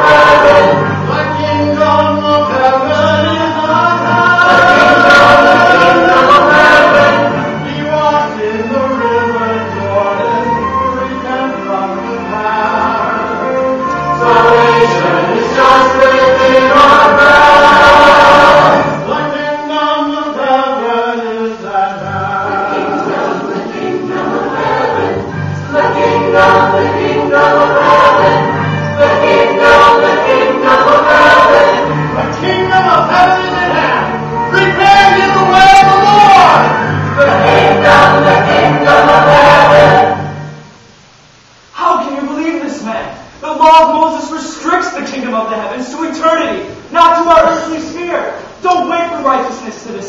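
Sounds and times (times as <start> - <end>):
mixed choir singing: 0.0 - 40.6.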